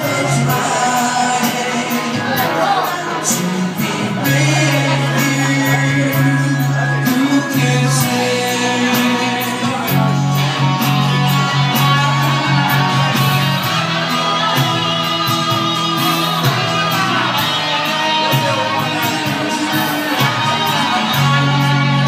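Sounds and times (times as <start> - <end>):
bass notes: 0.0 - 22.0
electric guitar: 0.0 - 22.0
steady drum beat: 0.0 - 22.0.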